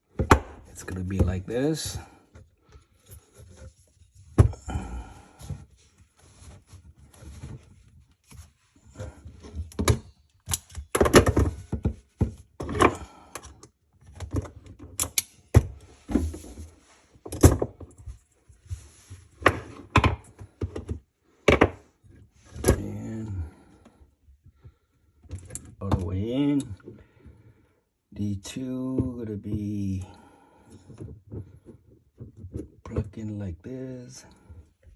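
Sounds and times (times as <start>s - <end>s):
knocks and clunks of handling: 0.0s - 27.6s, 28.6s - 33.4s.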